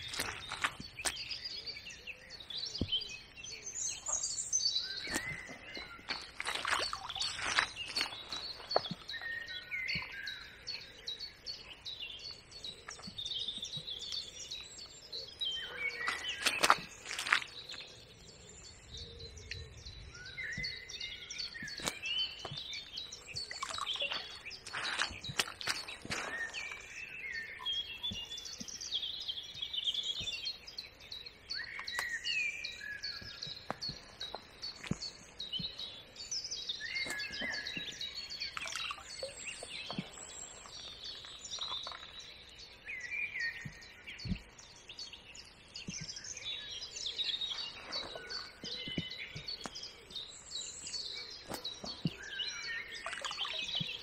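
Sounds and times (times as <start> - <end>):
songbirds warbling: 0.0 - 54.0.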